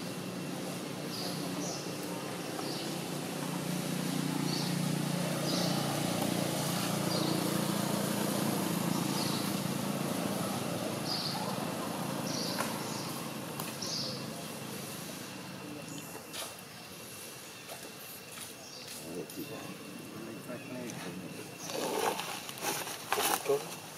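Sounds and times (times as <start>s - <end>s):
bird chirping: 1.0s - 22.3s.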